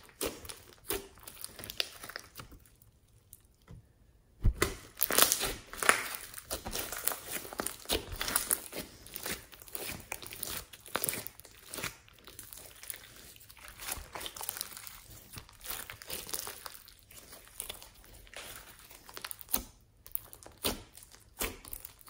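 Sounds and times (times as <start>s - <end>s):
slime crackling and popping: 0.0s - 3.7s, 4.4s - 22.0s.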